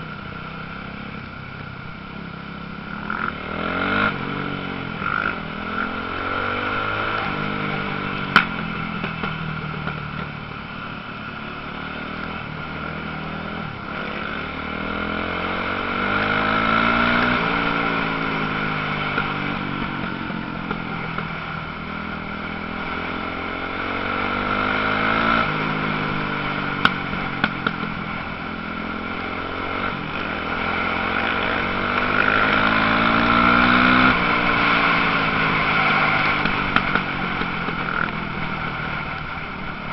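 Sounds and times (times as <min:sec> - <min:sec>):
motocross bike engines revving: 0:02.6 - 0:10.1, 0:10.8 - 0:39.9.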